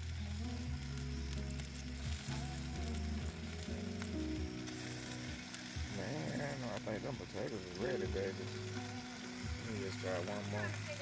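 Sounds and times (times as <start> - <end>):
background music with bass line: 0.0 - 11.0
food sizzling on a grill: 0.0 - 11.0.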